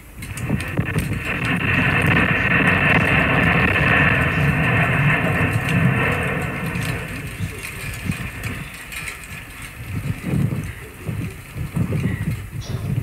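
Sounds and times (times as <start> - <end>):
volcano gas and ash rushing: 0.0 - 13.0
debris ticking on camera: 0.2 - 13.0.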